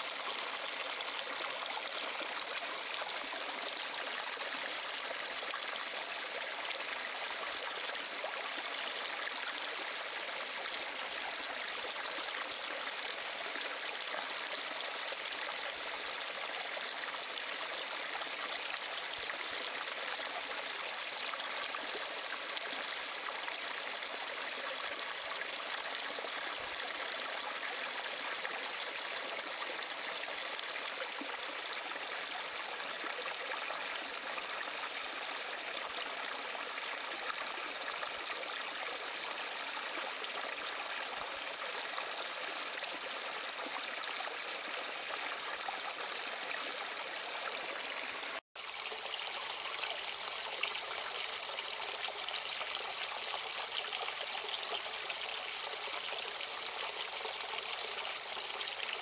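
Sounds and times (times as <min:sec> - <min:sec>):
brook babbling: 0:00.0 - 0:59.0.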